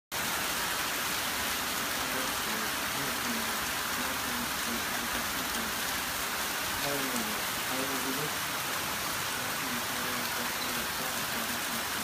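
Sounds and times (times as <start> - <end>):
torrential rain and hail: 0.1 - 12.0.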